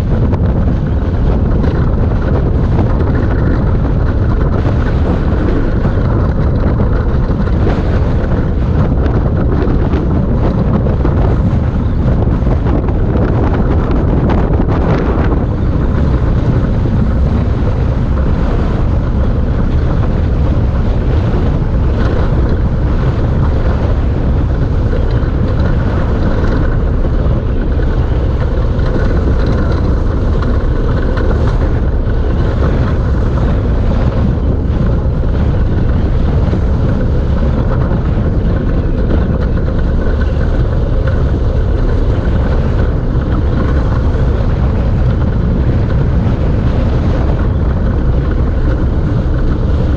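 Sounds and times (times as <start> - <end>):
tyres rolling on asphalt: 0.0 - 49.9
wind rushing on microphone: 0.0 - 49.9.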